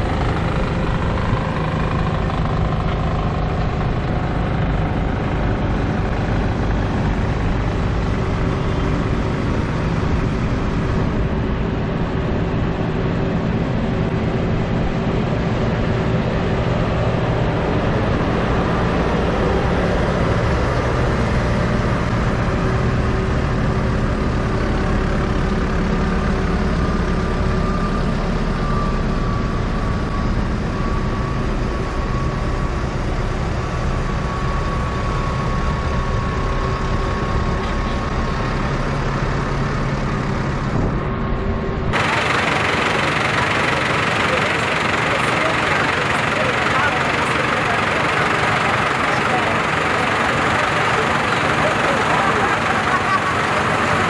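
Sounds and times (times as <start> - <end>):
diesel tractor engines: 0.0 - 54.0.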